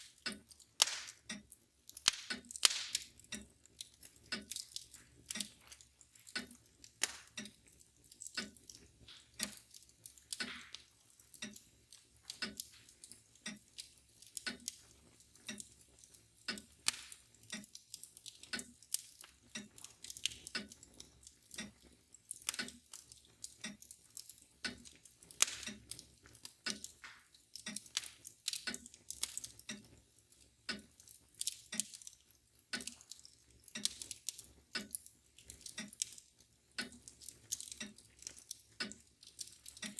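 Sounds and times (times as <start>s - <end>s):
mantel clock ticking: 0.0s - 39.9s
wood fire crackling and popping: 0.0s - 39.9s.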